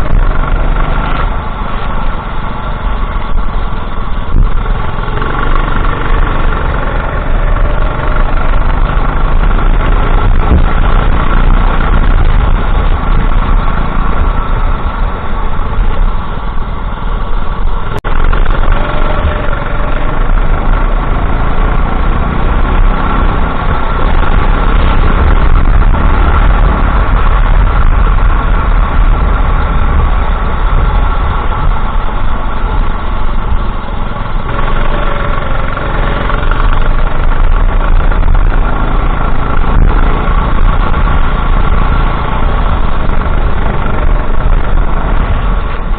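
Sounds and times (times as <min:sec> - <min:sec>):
racing kart engine running hard: 0:00.0 - 0:45.9.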